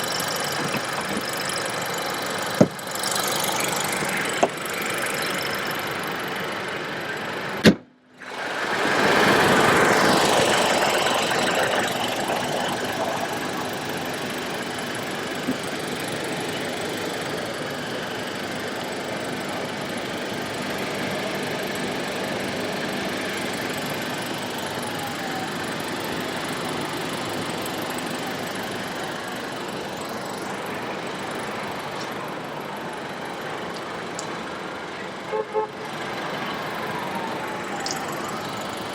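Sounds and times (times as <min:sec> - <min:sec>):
motor vehicle noise: 0:00.0 - 0:38.9.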